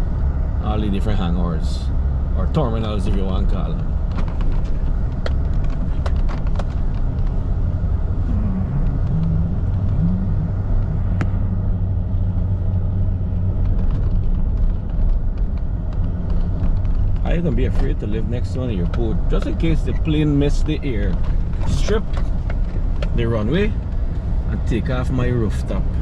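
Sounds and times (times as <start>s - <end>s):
car engine: 0.0s - 26.0s
road rumble: 0.0s - 26.0s.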